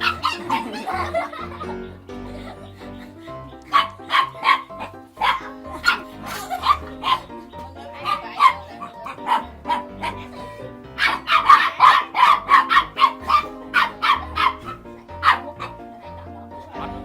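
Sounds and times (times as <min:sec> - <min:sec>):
background music: 0:00.0 - 0:17.0
dog barking: 0:00.0 - 0:17.0.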